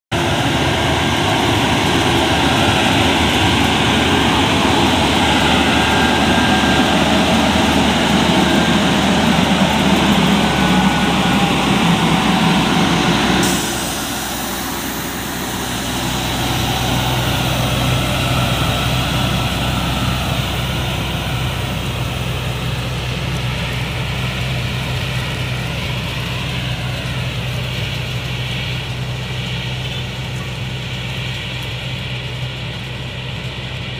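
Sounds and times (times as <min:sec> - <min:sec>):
cotton picker machine running: 0:00.1 - 0:33.9.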